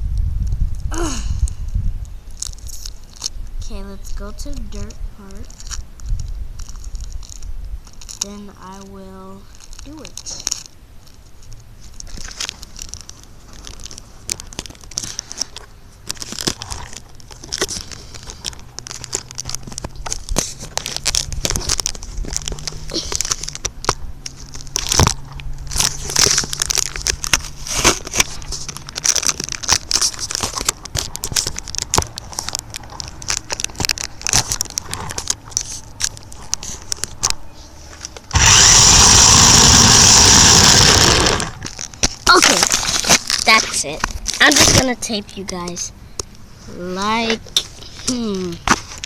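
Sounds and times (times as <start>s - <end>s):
toy truck tyres on dirt: 0.0s - 49.0s.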